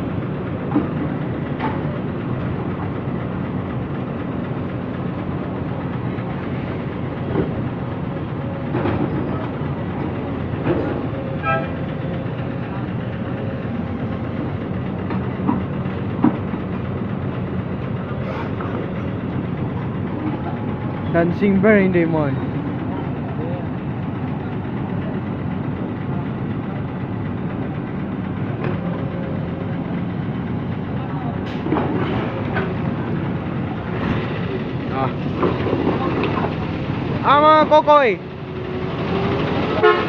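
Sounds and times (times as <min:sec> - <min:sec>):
diesel excavator engine drone: 0:00.0 - 0:40.0.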